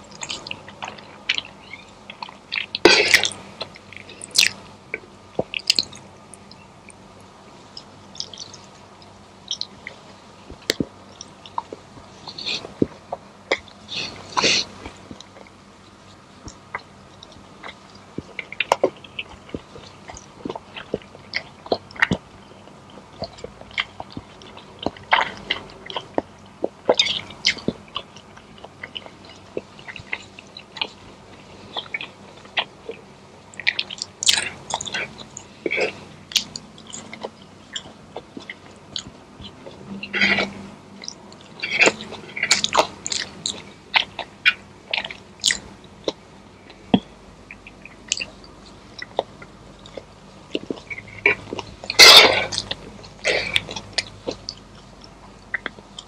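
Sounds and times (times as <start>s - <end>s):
person chewing food: 0.0s - 7.0s, 7.7s - 56.0s.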